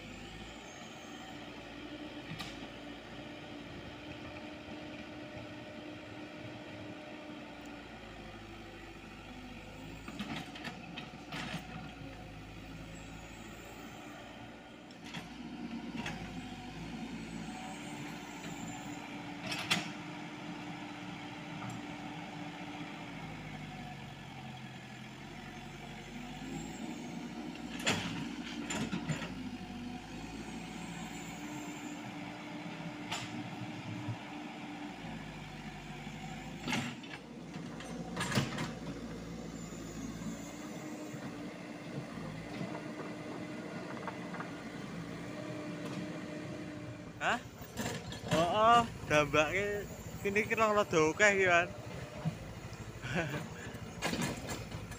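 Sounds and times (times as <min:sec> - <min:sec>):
excavator diesel engine: 0:00.0 - 0:54.9.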